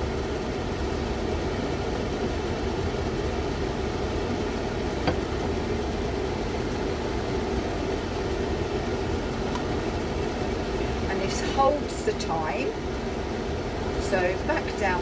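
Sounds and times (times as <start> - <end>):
extractor fan hum: 0.0 - 15.0.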